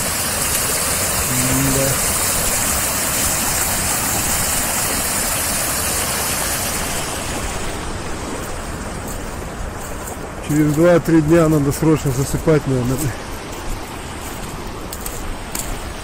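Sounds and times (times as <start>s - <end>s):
water rushing through a dam breach: 0.0s - 16.0s.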